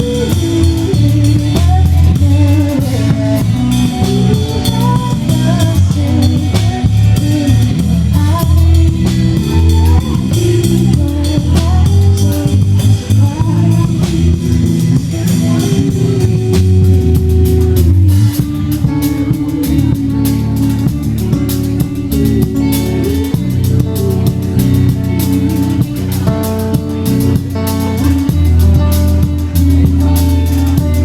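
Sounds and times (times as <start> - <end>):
live band playing pop song: 0.0 - 31.0.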